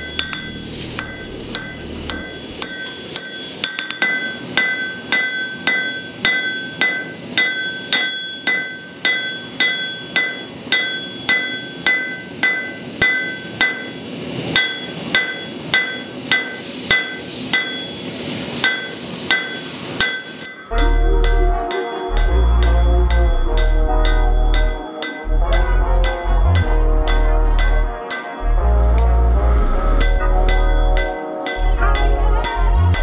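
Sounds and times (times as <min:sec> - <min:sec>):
hammer ringing on anvil: 0:00.0 - 0:29.1, 0:30.0 - 0:33.0.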